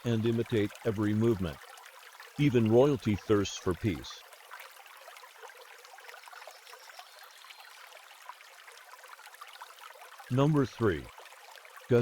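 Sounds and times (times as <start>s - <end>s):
faint trickling water: 0.0s - 12.0s
water drips and splashes: 0.0s - 12.0s.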